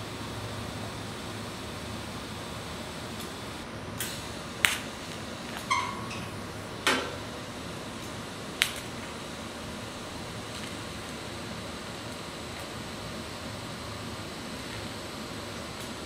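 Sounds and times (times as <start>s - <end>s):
welding hiss: 0.0s - 16.0s.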